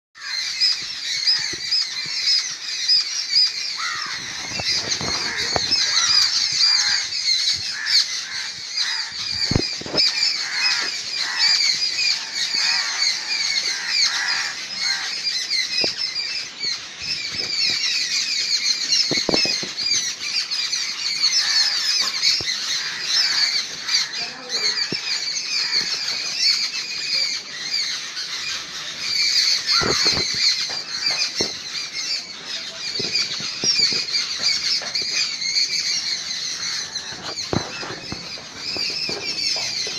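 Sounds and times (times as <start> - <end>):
crows calling harshly: 0.2 - 39.9.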